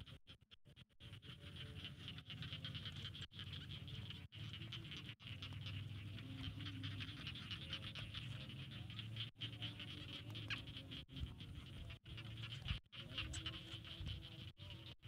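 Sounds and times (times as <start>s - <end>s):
insects and frogs calling: 0.0s - 15.0s.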